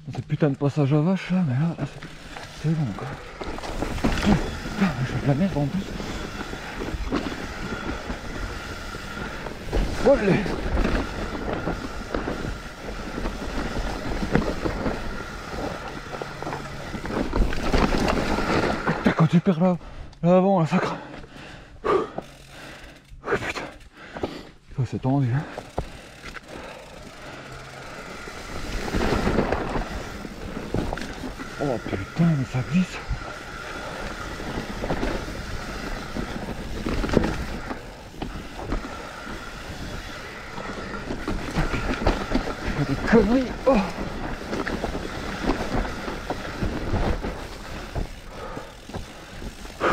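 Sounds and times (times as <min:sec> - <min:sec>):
bike tyres rolling over dirt: 0:00.0 - 0:49.9
bike chain and frame rattling: 0:00.8 - 0:19.6, 0:20.9 - 0:49.9.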